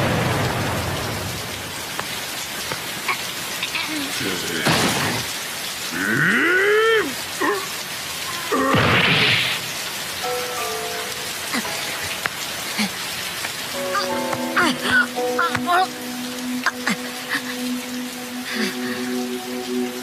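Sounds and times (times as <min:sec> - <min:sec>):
steady falling rain: 0:00.0 - 0:20.0.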